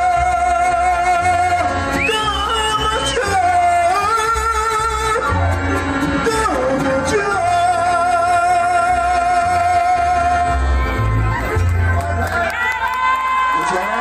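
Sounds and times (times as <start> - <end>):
mariachi band playing: 0.0 - 14.0.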